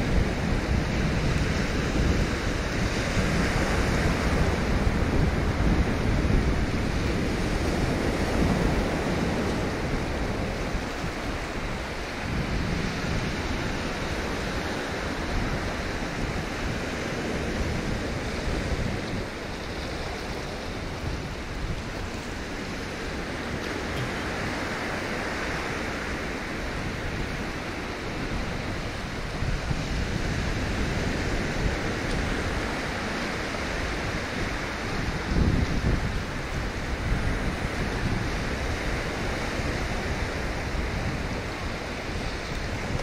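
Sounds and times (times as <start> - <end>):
sea surf washing on shore: 0.0 - 43.0.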